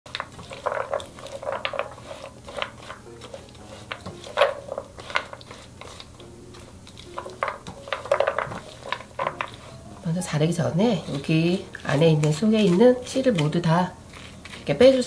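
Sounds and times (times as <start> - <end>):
spatula knocking and scraping pan: 0.1 - 15.0.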